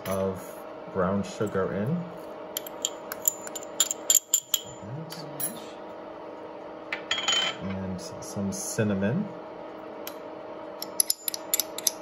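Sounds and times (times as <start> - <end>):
induction hob hum: 0.0 - 12.0.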